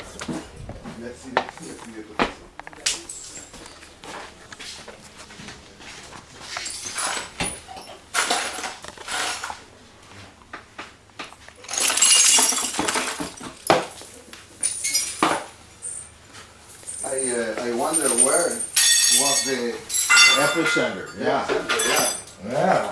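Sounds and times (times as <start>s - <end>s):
glass and dishes clattering: 0.2s - 4.3s, 6.4s - 9.6s, 11.2s - 16.2s, 16.8s - 22.9s.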